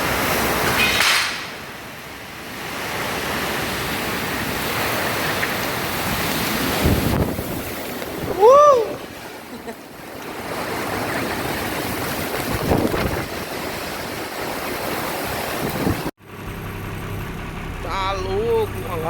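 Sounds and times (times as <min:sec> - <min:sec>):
storm wind buffeting microphone: 0:00.0 - 0:16.1.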